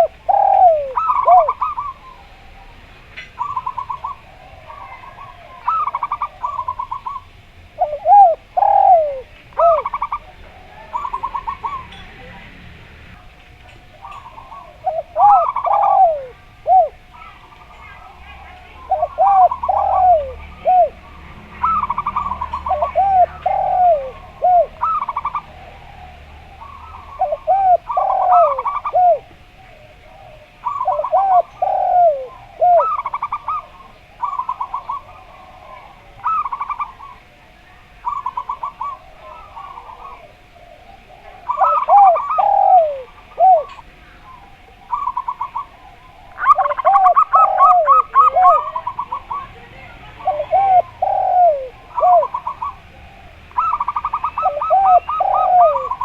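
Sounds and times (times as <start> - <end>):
dove stuttering notes: 0.0 - 2.6, 3.4 - 13.2, 13.9 - 37.4, 38.0 - 56.0
turtle-dove cooing: 0.0 - 56.0.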